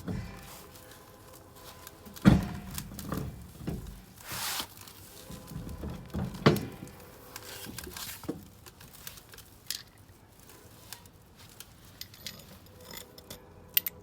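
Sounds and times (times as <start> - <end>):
clicks and knocks of objects handled: 0.0 - 14.0.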